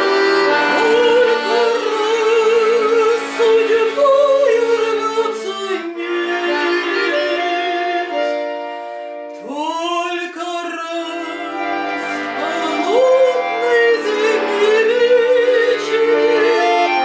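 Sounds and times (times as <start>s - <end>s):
person singing with vibrato: 0.0s - 8.7s, 9.3s - 17.0s
accordion chords: 0.0s - 17.0s.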